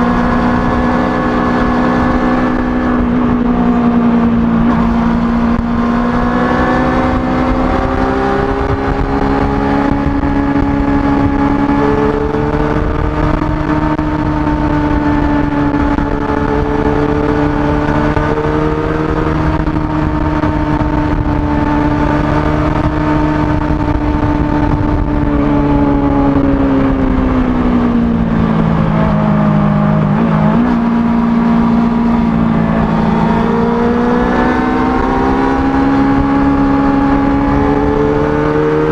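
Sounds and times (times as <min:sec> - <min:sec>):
motorcycle engine revving high: 0:00.0 - 0:38.9.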